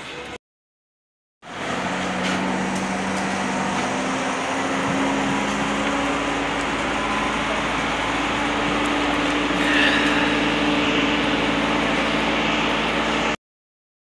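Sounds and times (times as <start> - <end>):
machine motor droning: 1.5 - 13.4.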